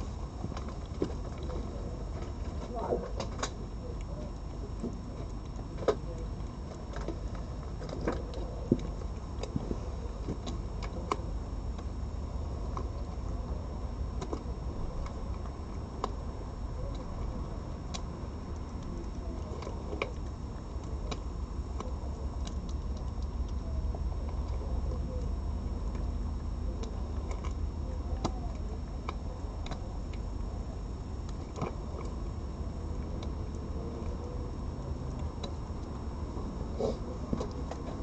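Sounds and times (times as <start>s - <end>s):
cat chewing food: 0.0s - 38.0s
steady low hum: 0.0s - 38.0s.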